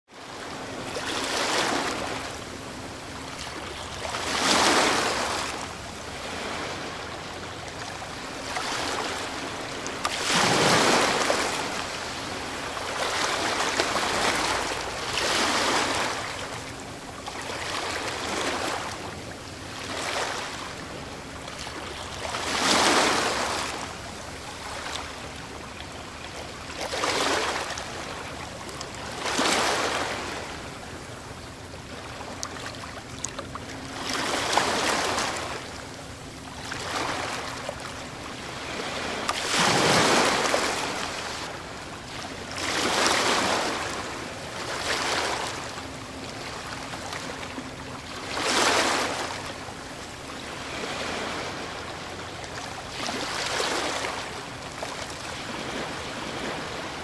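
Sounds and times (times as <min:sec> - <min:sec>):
ocean waves breaking: 0:00.1 - 0:57.0.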